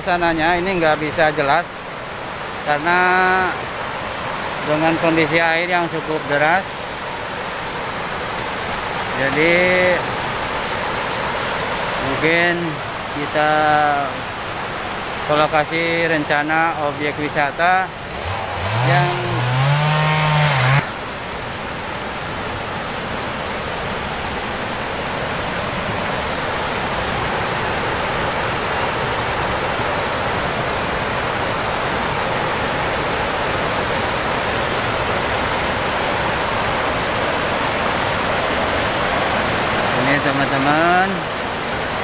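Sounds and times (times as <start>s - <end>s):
river water rushing over rocks: 0.0s - 19.2s, 20.8s - 42.0s.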